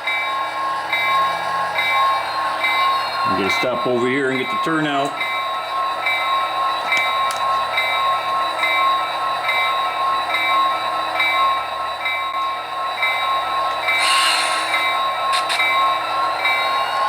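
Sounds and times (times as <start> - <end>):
model locomotive bell ringing: 0.0 - 17.0.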